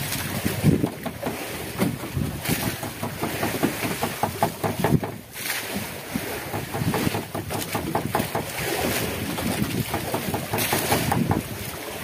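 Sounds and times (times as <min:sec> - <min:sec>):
open sea wash: 0:00.0 - 0:12.0
water slapping against boat: 0:00.0 - 0:12.0
wind buffeting microphone: 0:00.0 - 0:12.0.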